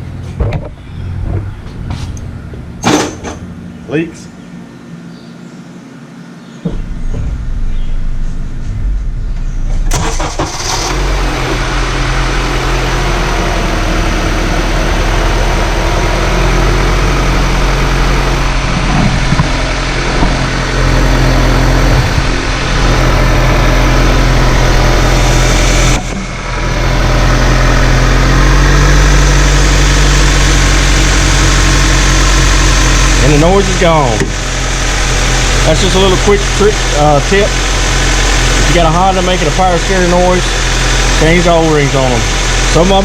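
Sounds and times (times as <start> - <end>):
car engine starting and idling: 6.7 - 43.0.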